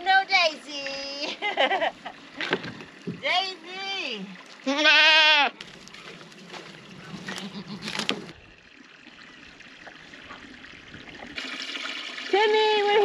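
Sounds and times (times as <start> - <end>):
trickle of running water: 0.0 - 13.0
water sloshing in plastic tub: 0.8 - 4.9, 5.5 - 13.0.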